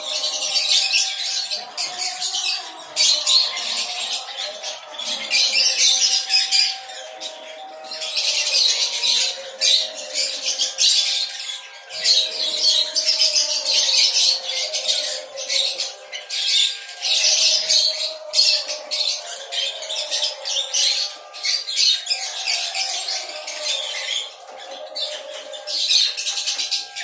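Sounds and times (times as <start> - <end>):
parrots chattering and squawking: 0.0 - 27.0.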